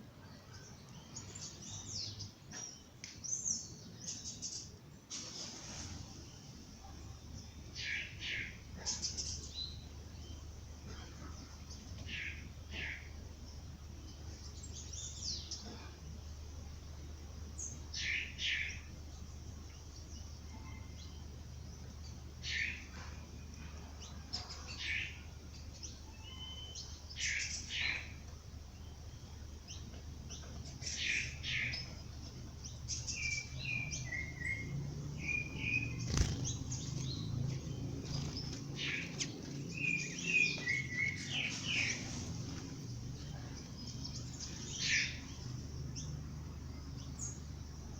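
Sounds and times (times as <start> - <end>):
low steady hum: 0.0 - 47.9
birds chirping and calling: 0.2 - 47.9.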